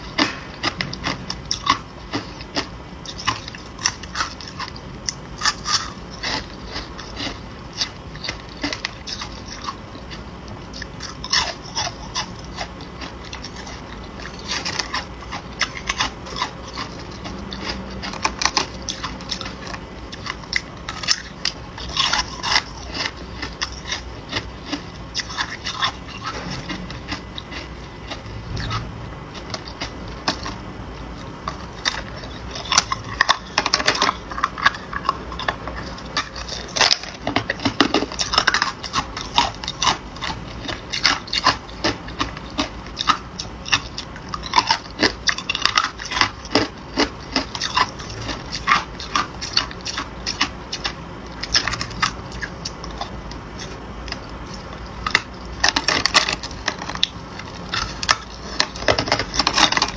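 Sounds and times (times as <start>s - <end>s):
chewing and crunching ice: 0.0s - 59.9s.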